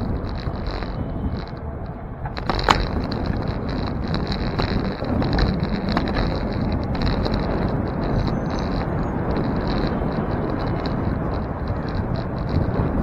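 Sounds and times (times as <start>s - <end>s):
bicycle tyres rumbling on pavement: 0.0s - 13.0s
wind on microphone: 0.0s - 13.0s.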